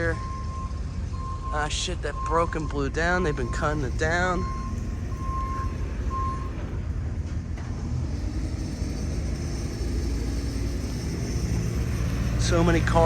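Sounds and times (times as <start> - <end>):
rumble of vehicles and machinery: 0.0 - 13.0.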